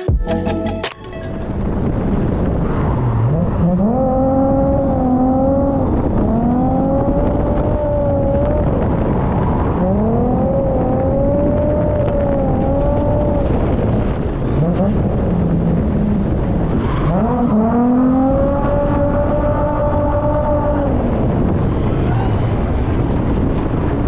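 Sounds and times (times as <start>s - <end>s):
car engine revving: 1.5s - 24.0s.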